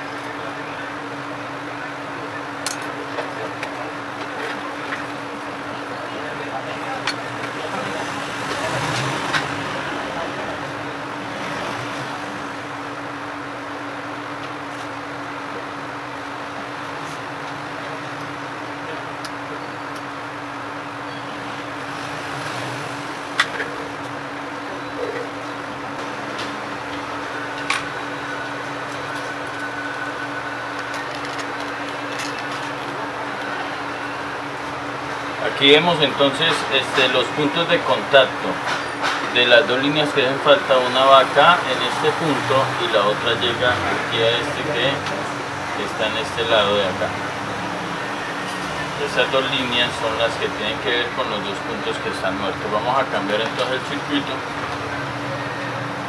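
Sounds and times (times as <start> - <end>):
workshop equipment whirring: 0.0 - 56.0.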